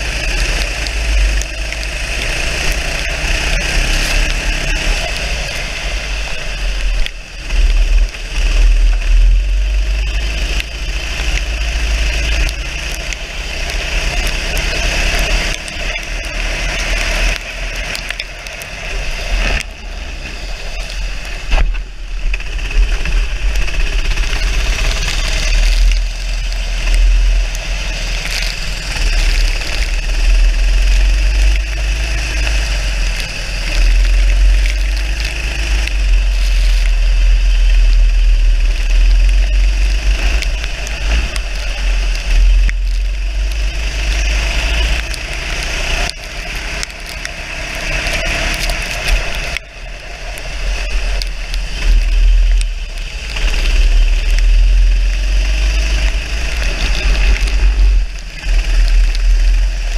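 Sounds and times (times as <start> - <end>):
go-kart engine running: 0.0 - 59.9
wind rumble on microphone: 0.0 - 59.9.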